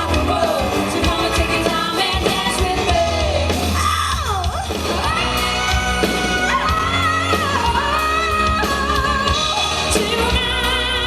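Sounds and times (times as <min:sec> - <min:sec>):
rock band music: 0:00.0 - 0:11.0.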